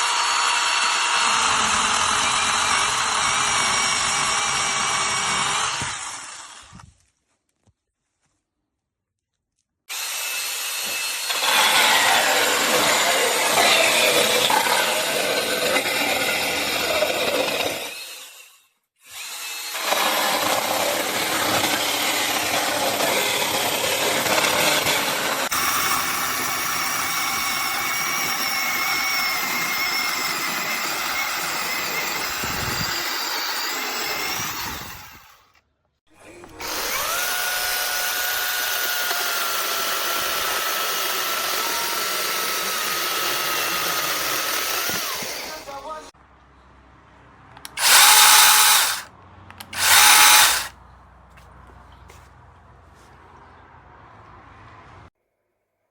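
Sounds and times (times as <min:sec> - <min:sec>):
chainsaw cutting wood: 0:00.0 - 0:06.9, 0:09.9 - 0:35.5, 0:36.4 - 0:45.8, 0:47.6 - 0:50.8.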